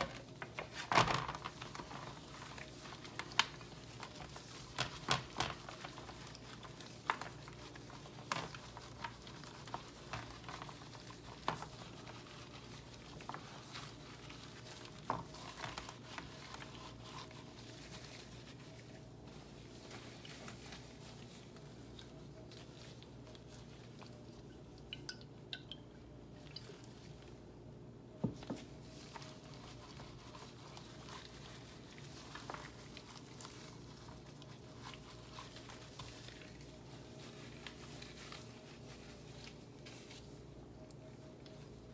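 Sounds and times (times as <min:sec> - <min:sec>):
gloved hands rubbing food: 0:00.0 - 0:24.9, 0:26.1 - 0:41.9
low steady hum: 0:00.0 - 0:41.9.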